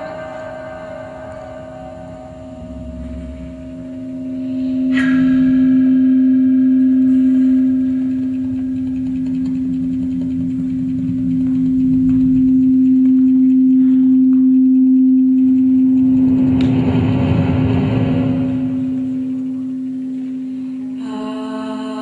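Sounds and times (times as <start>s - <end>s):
wide band of noise: 0.0s - 21.0s
held low flute tone: 0.0s - 22.0s
rumbling electronic noise: 0.0s - 22.0s.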